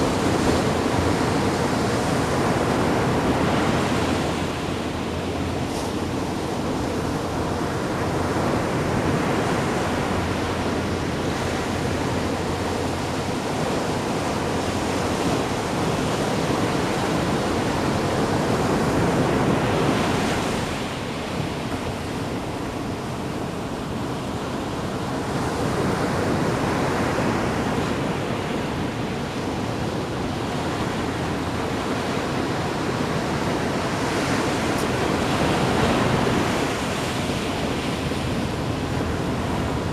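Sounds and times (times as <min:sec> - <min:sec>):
ocean waves splashing ashore: 0:00.0 - 0:39.9.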